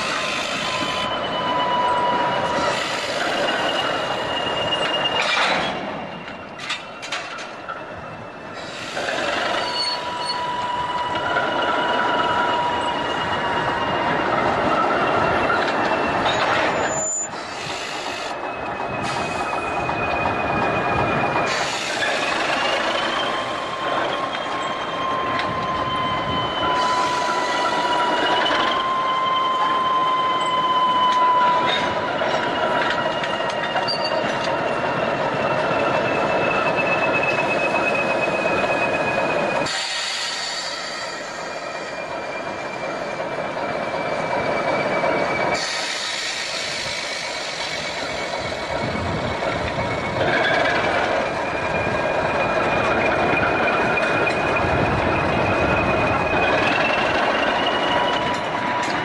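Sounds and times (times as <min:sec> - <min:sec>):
train running rumble: 0:00.0 - 0:59.0
wheel-flange squeals: 0:00.0 - 0:59.0.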